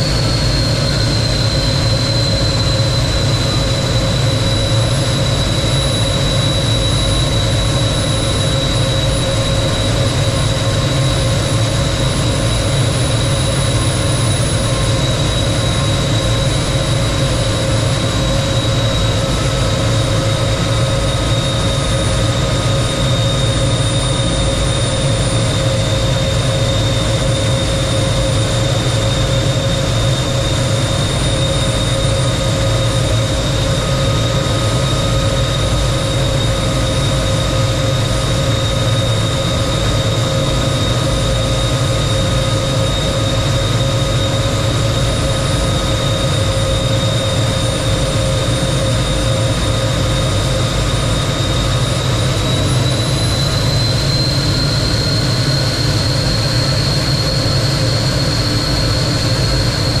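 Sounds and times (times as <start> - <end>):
jet engine running: 0.0 - 60.0.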